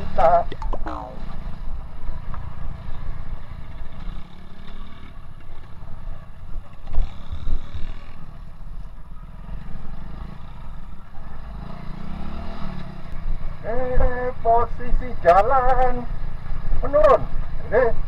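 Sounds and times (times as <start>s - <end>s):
motorcycle engine low rumble: 0.0s - 18.0s.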